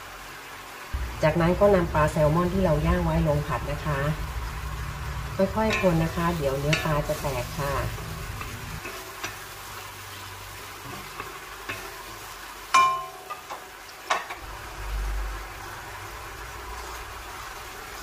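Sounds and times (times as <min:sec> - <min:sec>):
sauce simmering and sizzling in wok: 0:00.0 - 0:18.0.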